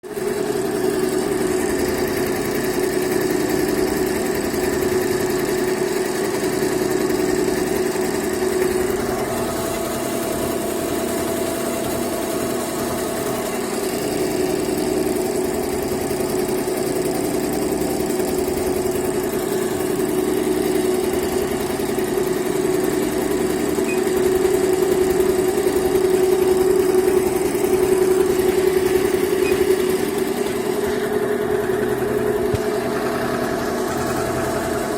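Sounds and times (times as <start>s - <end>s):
embroidery machine stitching: 0.0s - 34.9s.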